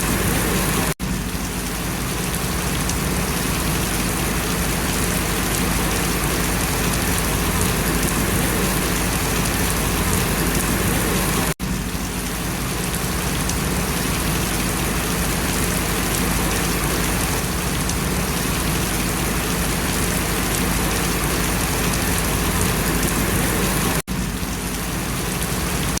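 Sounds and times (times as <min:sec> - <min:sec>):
rain pattering on leaves: 0:00.0 - 0:26.0.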